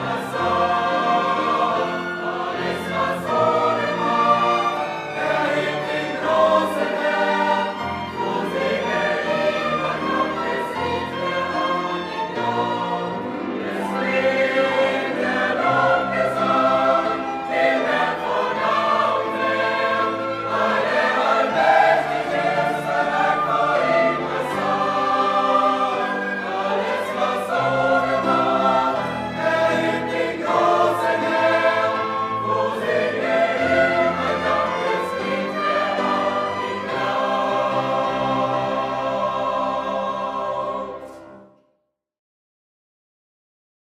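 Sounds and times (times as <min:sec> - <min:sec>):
choir singing: 0:00.0 - 0:41.6.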